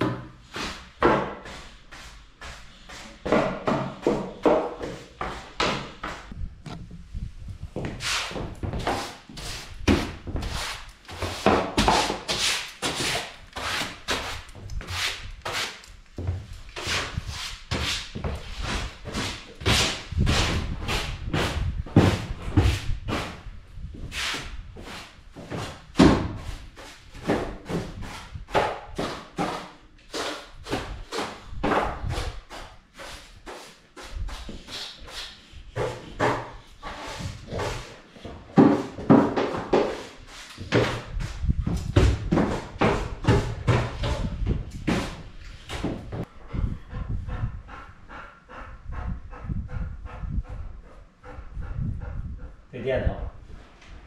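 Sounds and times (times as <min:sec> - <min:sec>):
broom sweeping hard floor: 0:00.4 - 0:06.4, 0:07.1 - 0:46.3.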